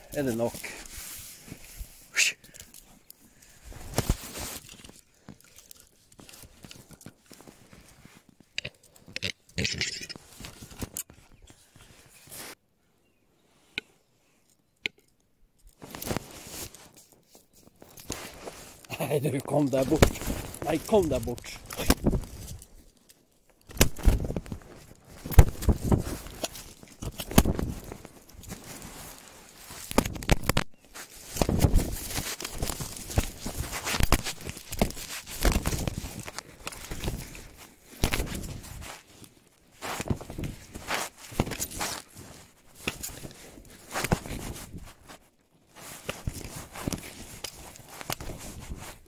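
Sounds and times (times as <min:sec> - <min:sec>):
rustling: 0:00.0 - 0:12.6, 0:15.6 - 0:49.0.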